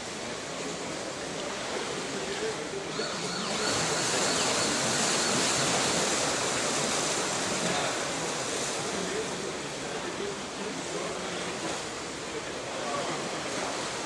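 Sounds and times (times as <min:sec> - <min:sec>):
water splashing and churning: 0:00.0 - 0:14.0.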